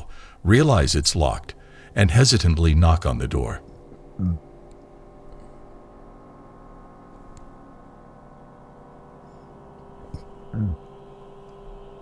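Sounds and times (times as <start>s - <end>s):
droning hum: 0.0s - 12.0s.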